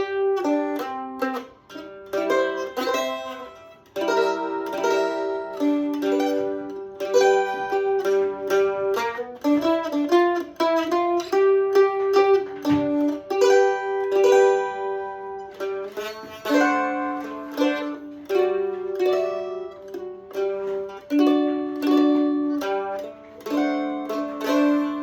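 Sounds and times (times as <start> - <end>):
mandolin playing blues: 0.0 - 25.0.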